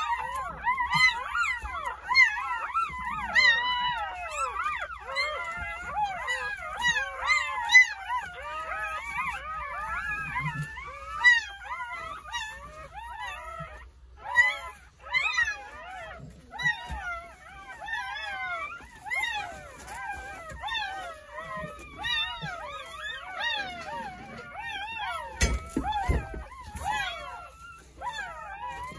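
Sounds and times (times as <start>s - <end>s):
puppies crying: 0.0s - 28.9s.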